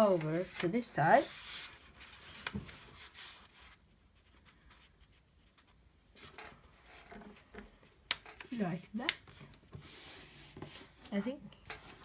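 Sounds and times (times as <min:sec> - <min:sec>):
paper being folded and creased: 0:00.0 - 0:07.4, 0:09.8 - 0:12.0.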